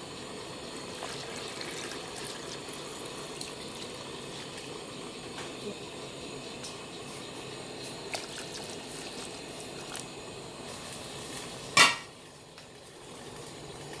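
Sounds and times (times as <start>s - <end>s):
low hiss of pot cooking: 0.0s - 14.0s.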